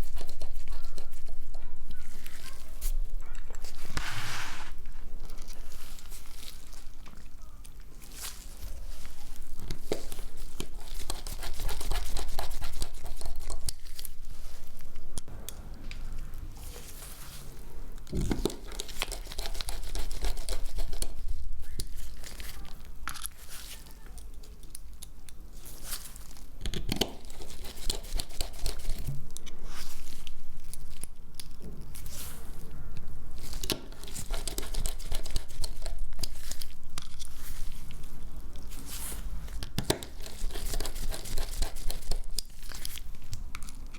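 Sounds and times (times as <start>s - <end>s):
crinkling and tearing: 0.1s - 32.7s, 33.3s - 43.9s.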